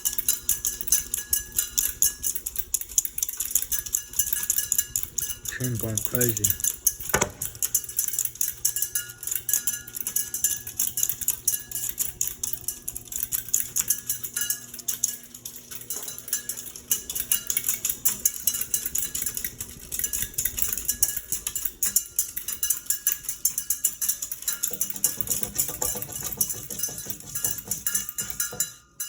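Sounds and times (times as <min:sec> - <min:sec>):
ceiling fan motor hum: 0:00.0 - 0:29.0
fan metallic clattering rattle: 0:00.0 - 0:29.0.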